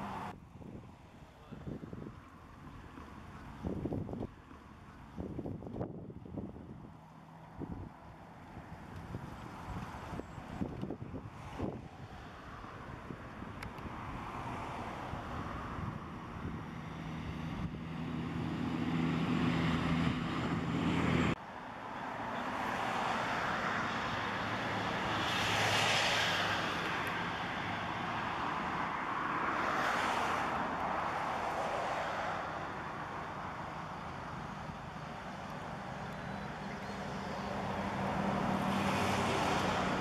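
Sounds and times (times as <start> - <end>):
steady engine hum: 0.0 - 40.0
vehicles passing by: 0.0 - 40.0.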